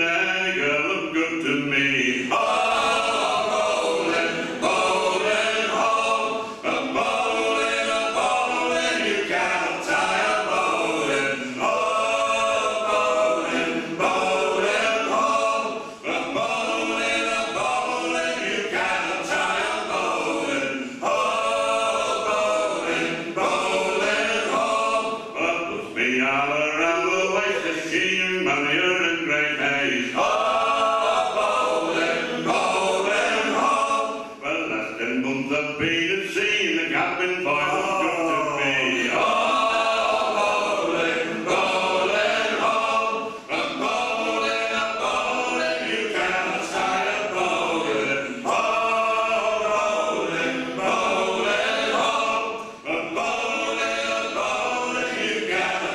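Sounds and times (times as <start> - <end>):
male vocal group singing in harmony: 0.0 - 55.9.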